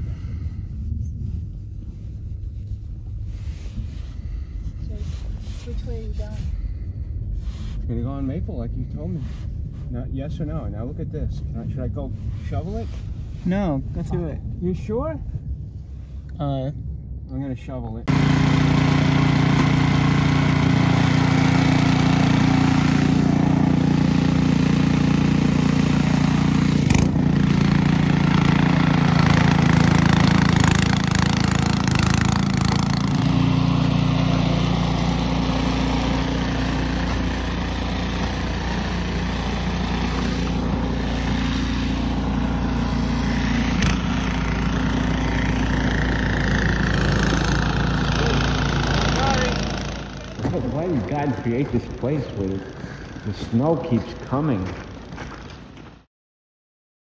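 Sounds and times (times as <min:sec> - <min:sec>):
engine running: 0:00.0 - 0:56.1.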